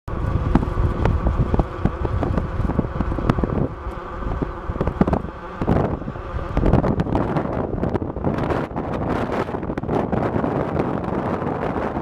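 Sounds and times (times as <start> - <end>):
vehicle engine and road rumble: 0.0 - 12.0
steady whine: 0.1 - 12.0.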